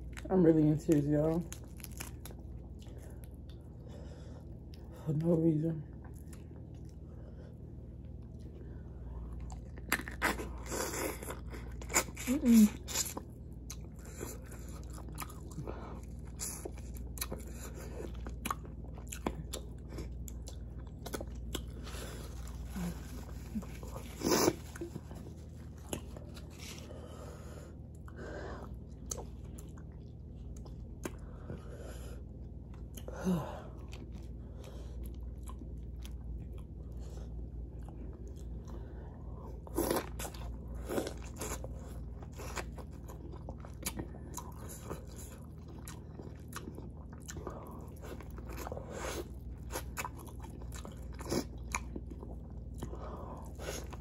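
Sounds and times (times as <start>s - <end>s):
low hum: 0.0s - 54.0s
person chewing food: 1.4s - 4.9s, 5.9s - 54.0s.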